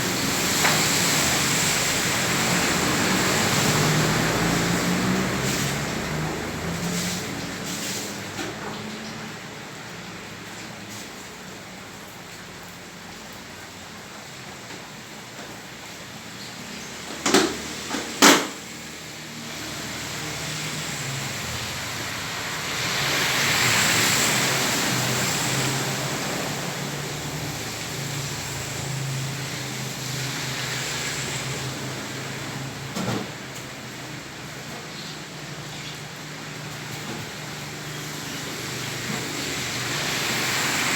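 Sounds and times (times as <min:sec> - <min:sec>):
vehicle passing through water: 0:00.0 - 0:11.7, 0:16.1 - 0:40.9
rain on flooded street: 0:00.0 - 0:40.9.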